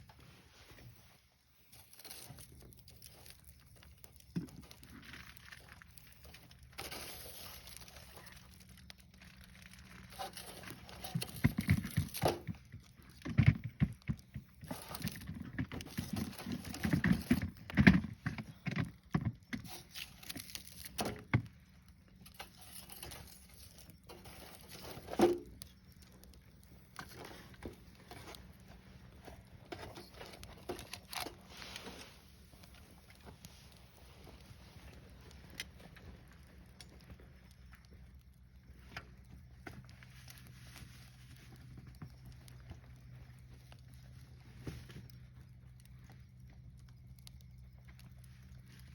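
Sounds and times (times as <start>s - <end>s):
wood fire crackling: 0.0s - 48.9s
sharp snaps and pops: 1.7s - 31.5s, 32.4s - 48.9s.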